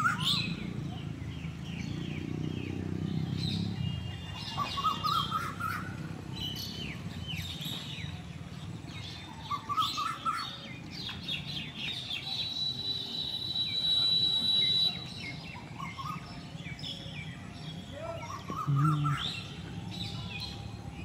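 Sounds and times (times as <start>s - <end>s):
bird trill: 0.0s - 8.2s, 8.9s - 21.0s
birds chirping: 0.0s - 21.0s.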